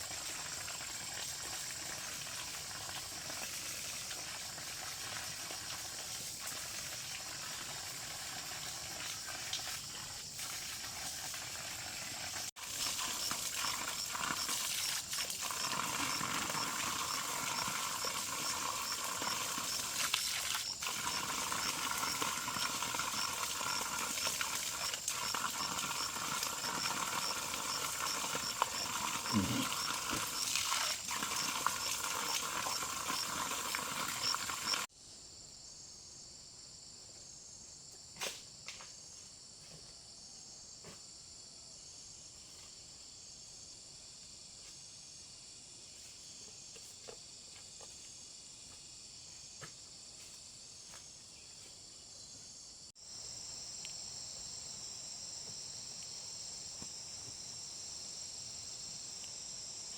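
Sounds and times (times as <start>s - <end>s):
cricket-like chirp: 0.0s - 59.9s
insects chirping and buzzing: 0.0s - 59.9s.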